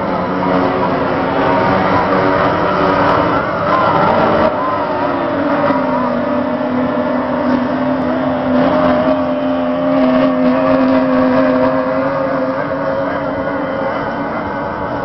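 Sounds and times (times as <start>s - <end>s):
outboard motors at high revs: 0.0s - 15.0s.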